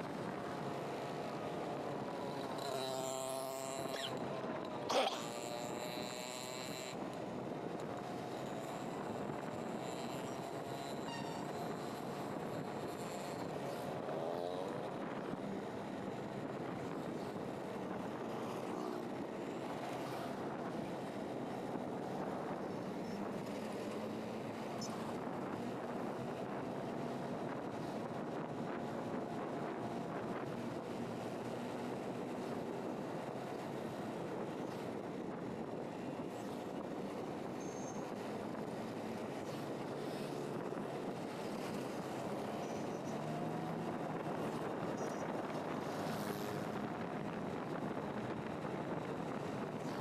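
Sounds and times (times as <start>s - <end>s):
vehicle engine and tyre noise: 0.0s - 50.0s.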